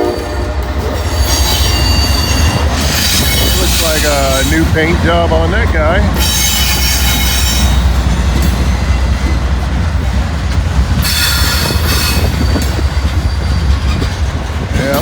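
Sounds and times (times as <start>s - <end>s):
train wheels squealing: 0.0s - 4.6s, 6.2s - 9.6s, 10.9s - 15.0s
freight train rumbling past: 0.0s - 15.0s.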